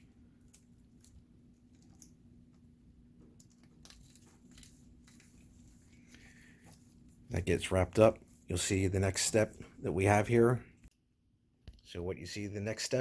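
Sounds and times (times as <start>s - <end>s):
electrical wires rustling and clicking: 0.0s - 11.0s
faint steady hum: 0.0s - 13.0s.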